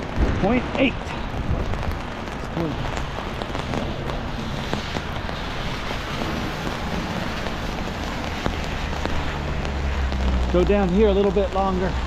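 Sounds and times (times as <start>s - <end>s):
rain on an umbrella: 0.0s - 12.0s.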